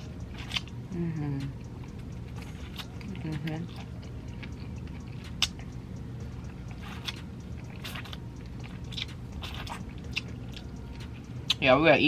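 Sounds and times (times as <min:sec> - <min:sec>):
crunchy chewing: 0:00.0 - 0:00.8, 0:01.4 - 0:11.6
steady low hum: 0:00.0 - 0:12.0.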